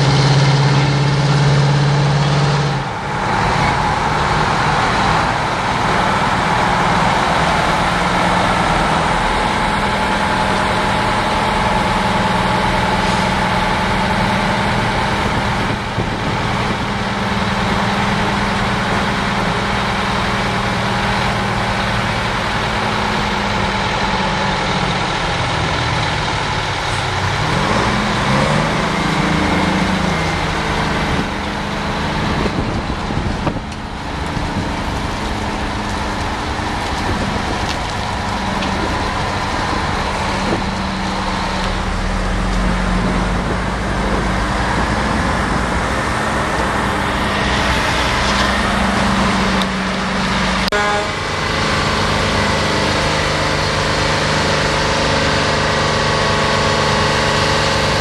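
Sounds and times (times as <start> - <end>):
diesel truck engines running: 0.0 - 58.0
engine revving: 0.0 - 58.0.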